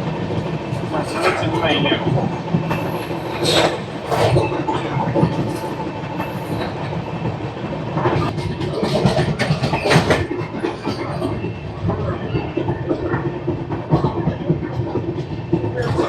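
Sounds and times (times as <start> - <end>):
train coach rumbling: 0.0 - 16.0.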